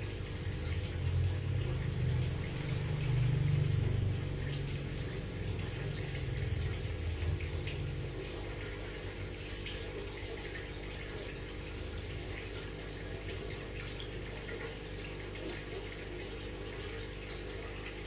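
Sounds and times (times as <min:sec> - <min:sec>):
aquarium water trickling: 0:00.0 - 0:18.0
steady low hum: 0:00.0 - 0:18.0
water dripping: 0:00.0 - 0:18.0.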